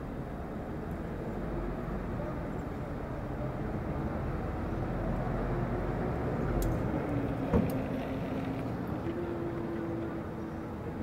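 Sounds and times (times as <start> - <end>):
distant traffic rumble: 0.0 - 11.0
faint engine hum: 0.0 - 11.0.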